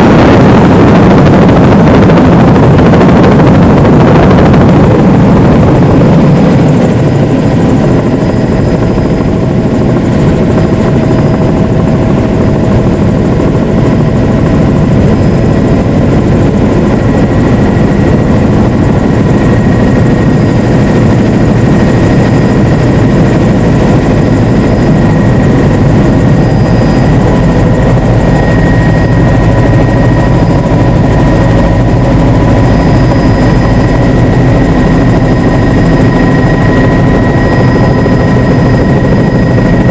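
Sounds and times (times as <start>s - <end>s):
helicopter rotor and engine noise: 0.0s - 39.9s
thin steady whine: 0.0s - 39.9s.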